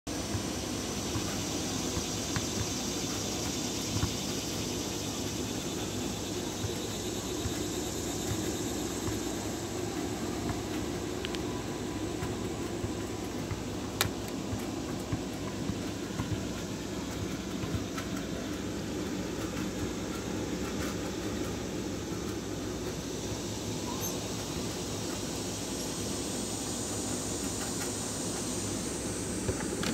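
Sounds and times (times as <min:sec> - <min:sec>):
low rumble with hiss: 0:00.1 - 0:29.9.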